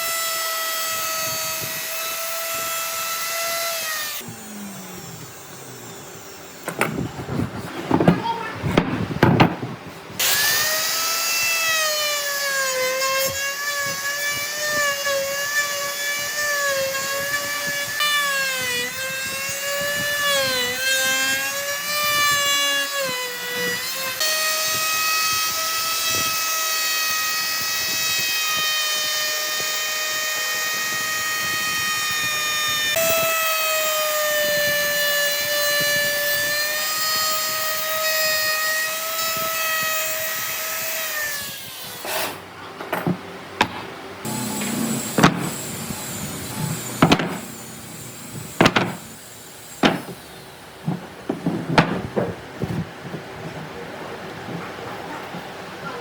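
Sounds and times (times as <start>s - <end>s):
power tool motor whining: 0.0s - 8.0s, 10.2s - 42.4s, 44.2s - 50.5s.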